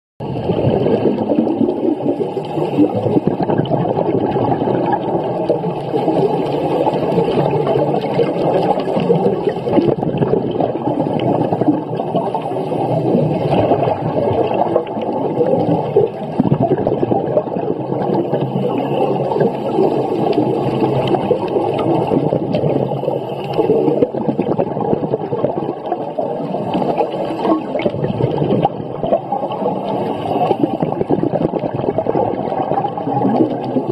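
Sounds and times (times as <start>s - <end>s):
underwater bubbling and gurgling: 0.2s - 33.9s.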